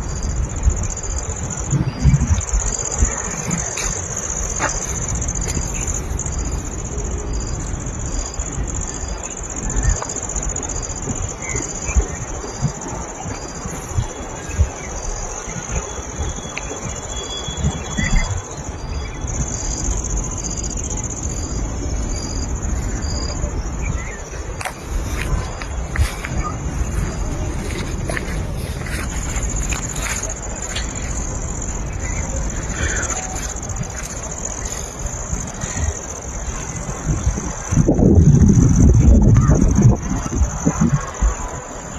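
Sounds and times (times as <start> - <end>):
insect chirping in steady pulse: 0.0 - 41.9
insects droning: 0.0 - 41.9.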